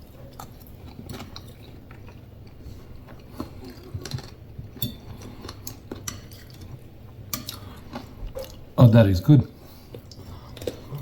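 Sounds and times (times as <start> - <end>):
man chewing food: 0.0 - 8.8, 9.6 - 11.0
low room hum: 0.0 - 11.0.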